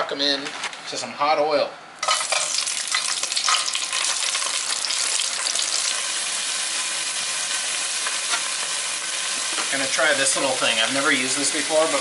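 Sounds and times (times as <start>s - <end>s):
chicken sizzling in hot oil: 2.0s - 12.0s.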